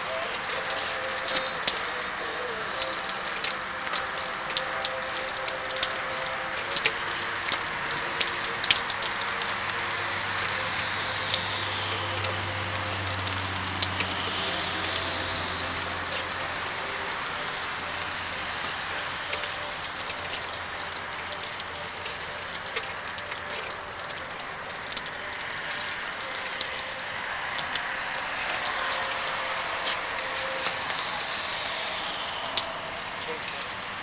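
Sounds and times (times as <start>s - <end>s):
water spraying and falling: 0.0s - 34.0s.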